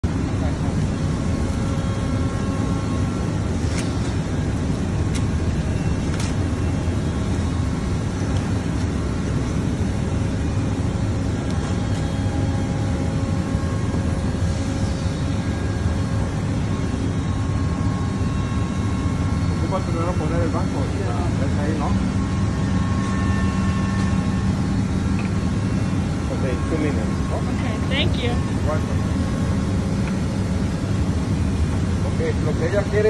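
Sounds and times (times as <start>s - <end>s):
factory low rumble: 0.0s - 33.0s.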